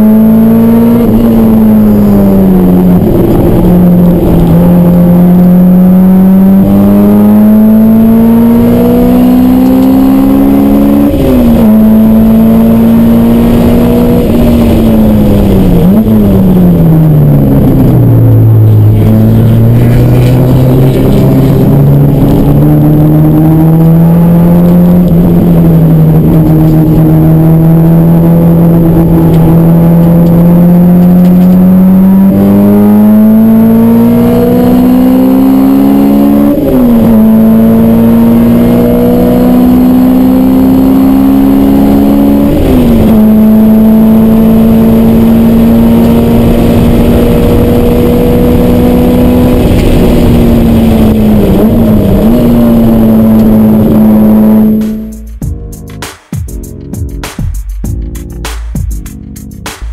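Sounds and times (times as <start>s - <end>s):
car engine revving under load: 0.0s - 55.4s.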